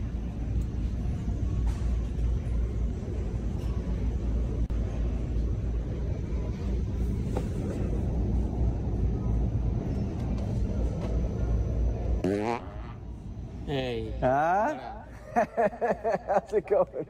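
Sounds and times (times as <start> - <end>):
store background rumble and hiss: 0.0 - 17.0.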